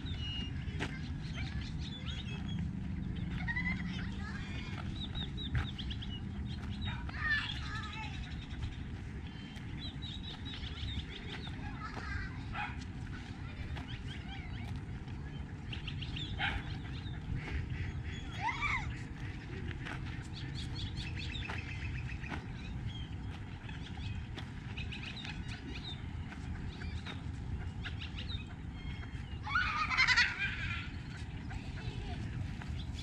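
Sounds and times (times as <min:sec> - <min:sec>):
ducks and birds calling: 0:00.0 - 0:33.0.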